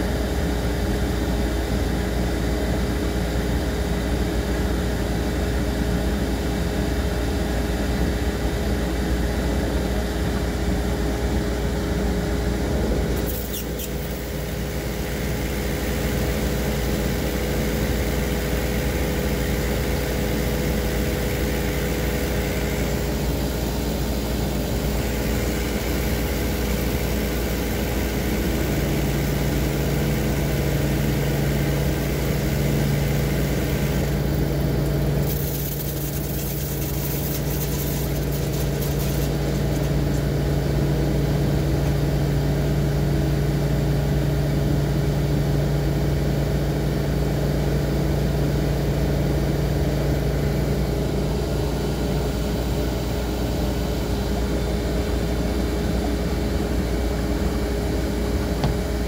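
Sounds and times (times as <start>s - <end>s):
appliance motor and fan hum: 0.0s - 59.0s.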